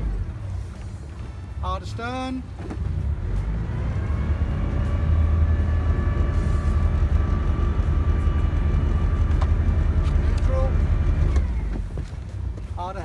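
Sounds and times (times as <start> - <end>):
boat engine rumbling: 0.0 - 13.0
faint engine whine: 0.0 - 13.0.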